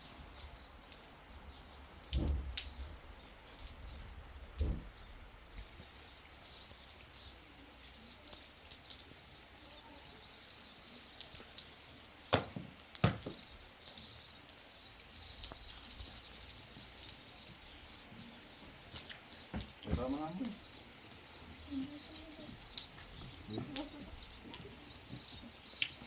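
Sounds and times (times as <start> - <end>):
birds chirping: 0.0 - 26.0
faint rain: 0.0 - 26.0.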